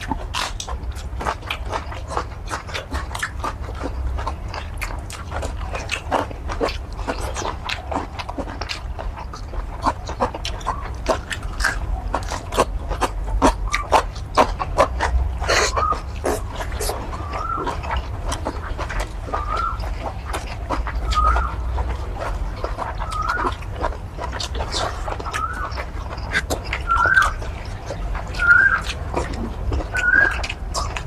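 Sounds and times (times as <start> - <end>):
low steady hum: 0.0 - 31.0
wet chewing and lip smacking: 0.0 - 31.0.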